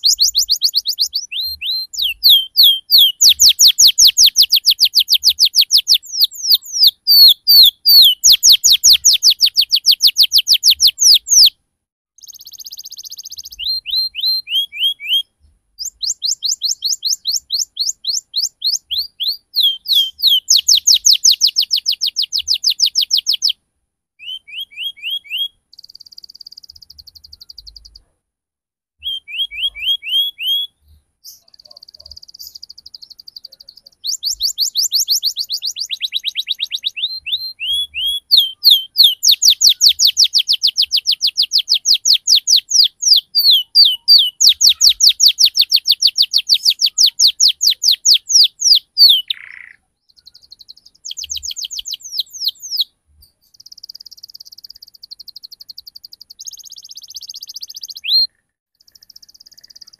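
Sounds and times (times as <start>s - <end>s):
canary singing trills: 0.0s - 11.6s, 12.2s - 23.6s, 24.2s - 28.1s, 29.0s - 59.9s.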